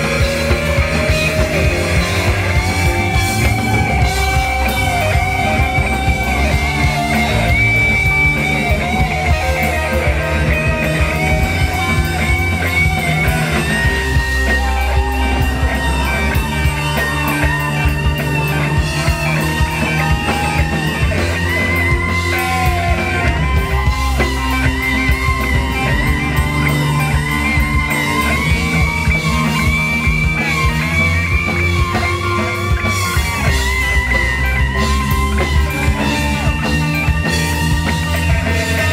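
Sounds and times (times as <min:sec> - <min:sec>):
drum kit: 0:00.0 - 0:38.9
electric guitar: 0:00.0 - 0:38.9
keyboard: 0:00.0 - 0:38.9.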